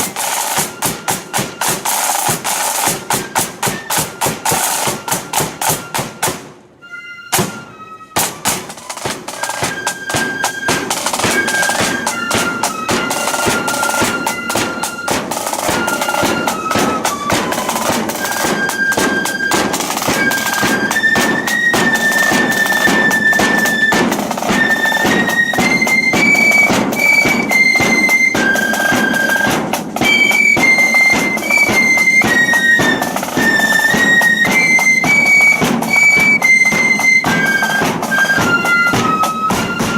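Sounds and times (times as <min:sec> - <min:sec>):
flutes playing a tune: 0:00.0 - 0:39.9
marching drum strokes: 0:00.0 - 0:39.9.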